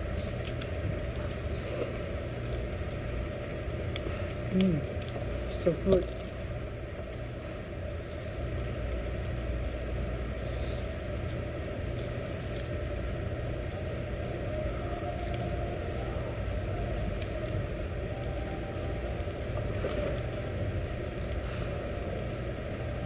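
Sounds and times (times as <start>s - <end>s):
faint crackles: 0.0s - 23.0s
meat sizzling on a grill: 0.0s - 23.0s
steady low rumble: 0.0s - 23.0s.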